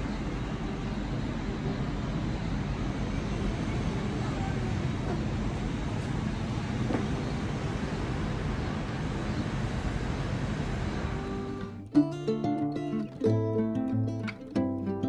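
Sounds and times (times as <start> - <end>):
distant city traffic hum: 0.0 - 15.0.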